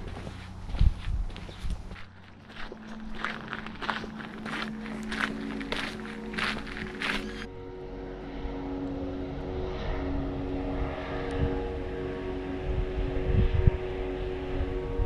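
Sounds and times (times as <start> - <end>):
low rumble: 0.0 - 15.0
steady engine drone: 0.0 - 15.0.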